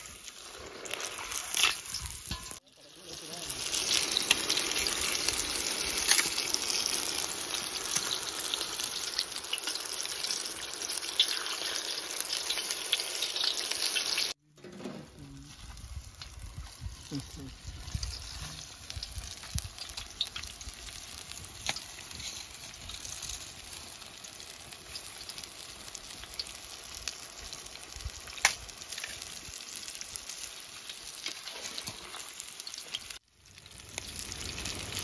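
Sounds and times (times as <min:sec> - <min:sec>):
chicken deep-frying in oil: 0:00.0 - 0:14.4, 0:15.5 - 0:35.0.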